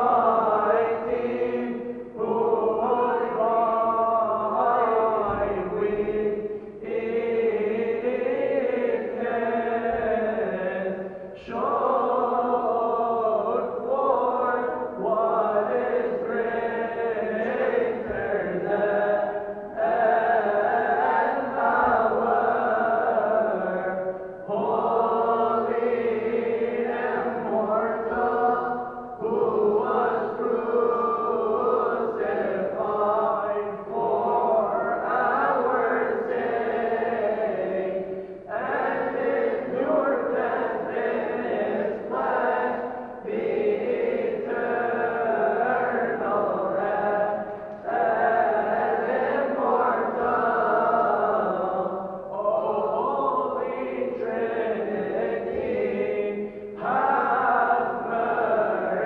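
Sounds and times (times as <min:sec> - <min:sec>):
choir chanting a hymn: 0:00.0 - 0:59.0.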